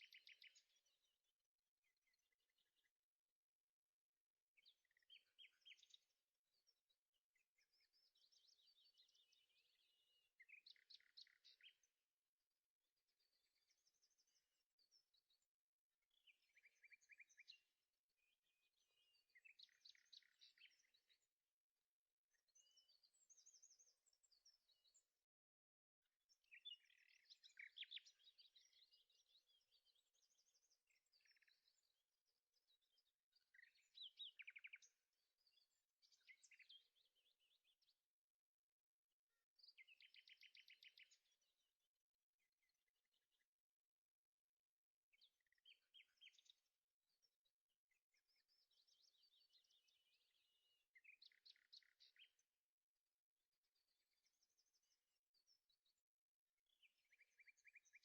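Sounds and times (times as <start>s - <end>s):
faint birdsong chirps and trills: 0.0s - 58.0s.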